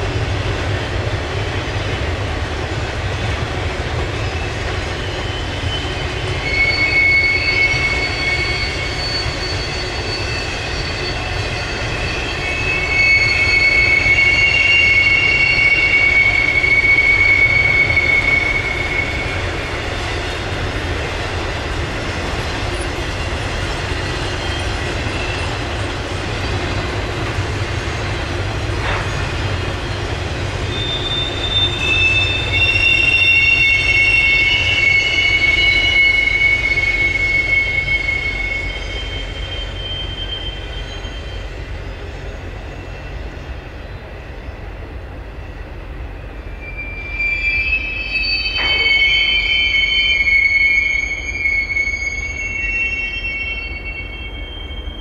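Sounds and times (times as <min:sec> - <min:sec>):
freight train rumbling past: 0:00.0 - 0:55.0
high wheel squeal: 0:00.0 - 0:55.0.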